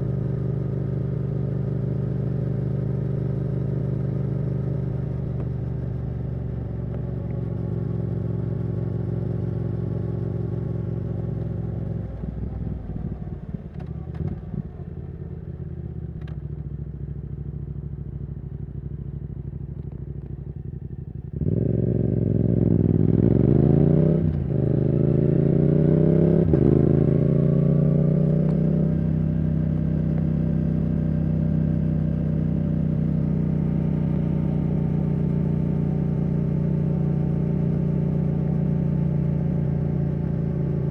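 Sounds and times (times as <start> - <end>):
motorcycle engine accelerating: 0.0 - 16.7, 19.6 - 40.9.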